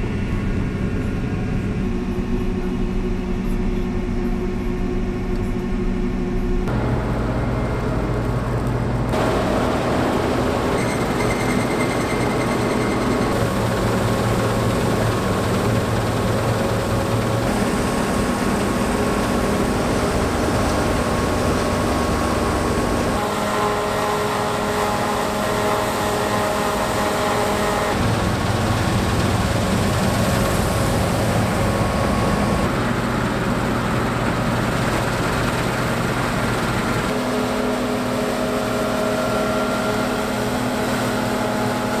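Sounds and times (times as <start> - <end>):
combine harvester droning: 0.0 - 42.0
machinery whining tones: 0.0 - 42.0.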